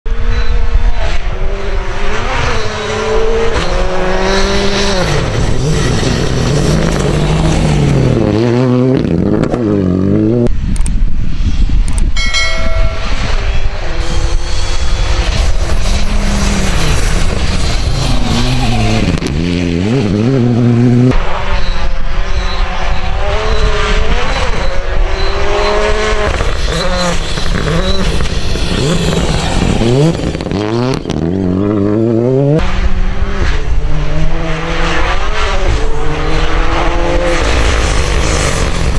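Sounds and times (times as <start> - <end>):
rally car engines revving: 0.1 - 10.7, 12.9 - 38.9.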